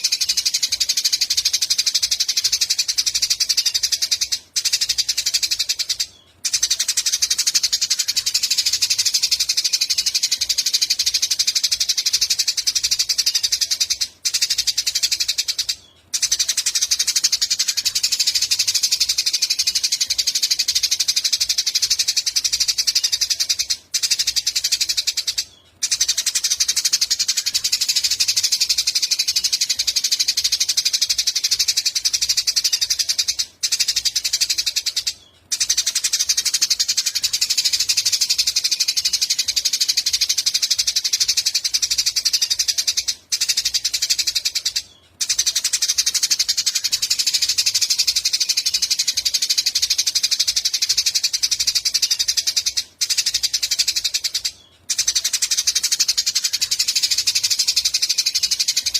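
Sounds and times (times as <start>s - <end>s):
songbird high buzzing trill: 0.0s - 58.9s.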